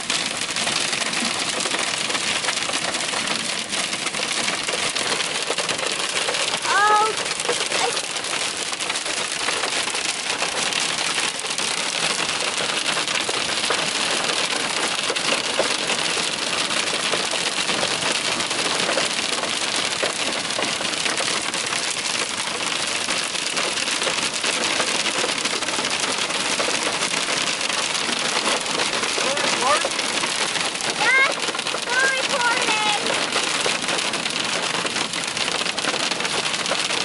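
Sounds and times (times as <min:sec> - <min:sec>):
hail and rain on car roof: 0:00.0 - 0:37.0.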